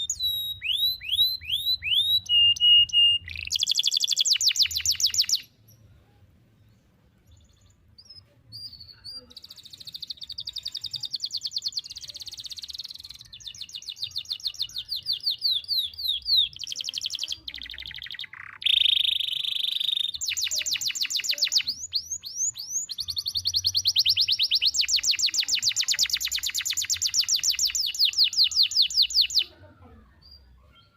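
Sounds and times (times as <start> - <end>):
canary singing trills: 0.0 - 5.9, 7.2 - 29.6.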